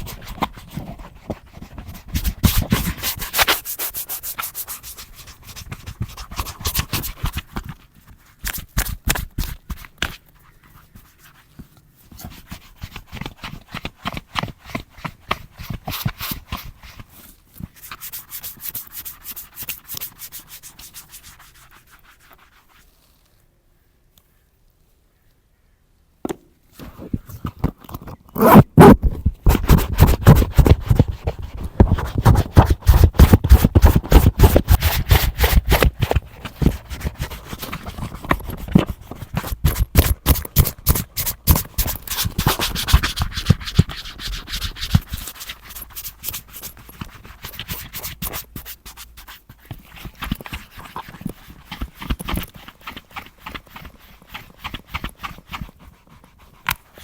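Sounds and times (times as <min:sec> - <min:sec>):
brush scrubbing leather boot: 0:00.0 - 0:07.5, 0:12.2 - 0:23.3, 0:29.5 - 0:57.0.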